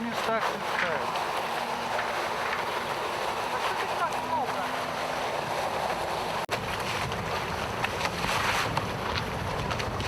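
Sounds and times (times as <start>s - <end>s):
water washing around boat: 0.0s - 10.0s
wind buffeting microphone: 0.6s - 10.0s.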